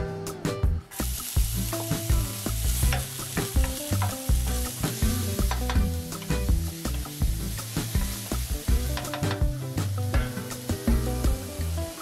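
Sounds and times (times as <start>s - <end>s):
background music with steady beat: 0.0s - 12.0s
garlic sizzling in hot oil: 0.8s - 12.0s.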